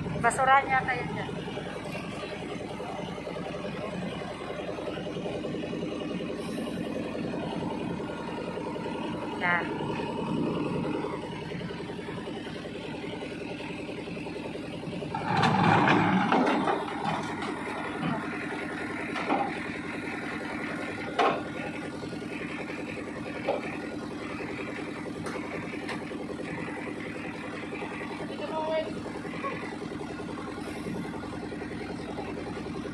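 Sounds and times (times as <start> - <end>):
truck engine idling: 0.0 - 32.9.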